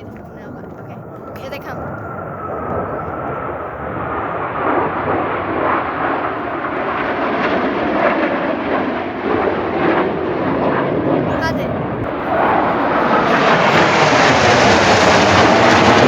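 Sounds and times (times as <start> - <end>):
airplane engines roaring: 0.0 - 16.0.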